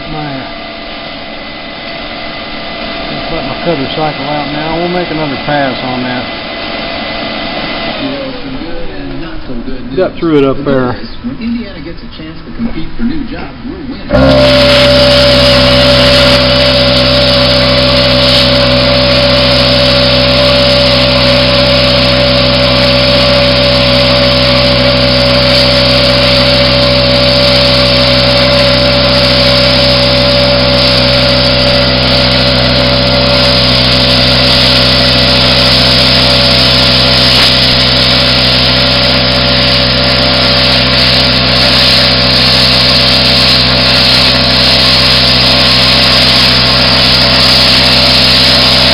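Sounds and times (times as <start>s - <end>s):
plasma cutter hissing buzz: 0.0s - 10.8s, 14.0s - 48.9s.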